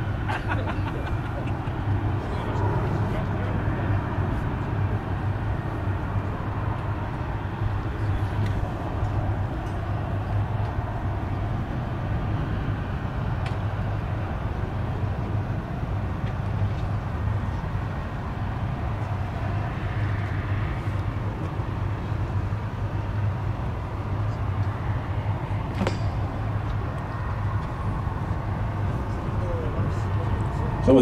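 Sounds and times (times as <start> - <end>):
jet engines rumbling overhead: 0.0 - 31.0.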